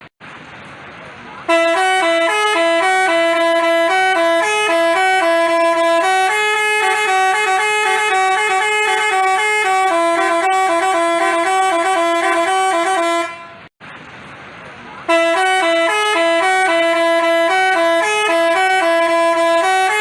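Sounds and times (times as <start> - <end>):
horn playing quick tune: 1.5 - 13.7, 15.1 - 20.0.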